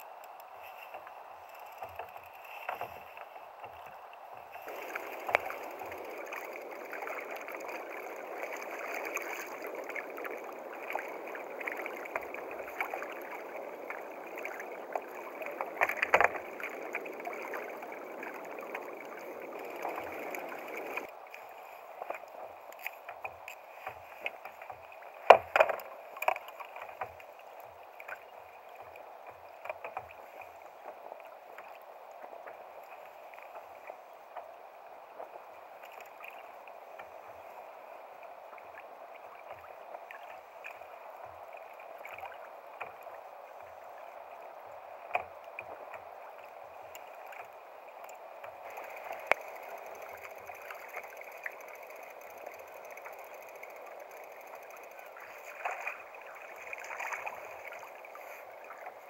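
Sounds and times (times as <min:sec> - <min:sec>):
water lapping against kayak hull: 0:00.0 - 0:59.0.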